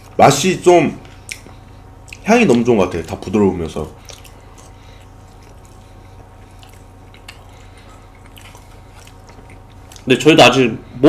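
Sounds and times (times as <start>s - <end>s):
steady low hum: 0.0s - 11.0s
quiet chewing: 1.0s - 10.1s.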